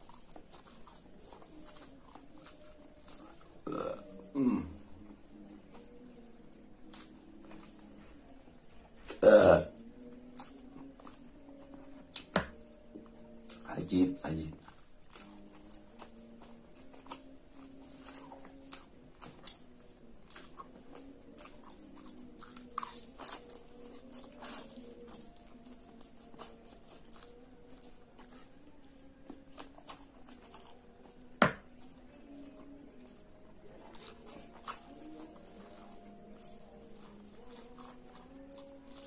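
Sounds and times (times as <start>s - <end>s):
close-up chewing noodles: 0.0s - 39.0s
faint steady hum: 0.0s - 39.0s.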